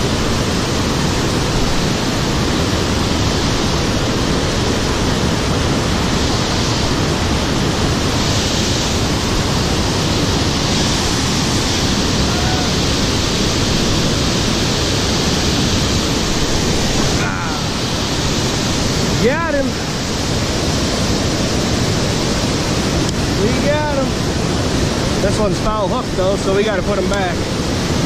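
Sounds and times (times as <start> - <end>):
fast-flowing river water rushing: 0.0 - 28.0.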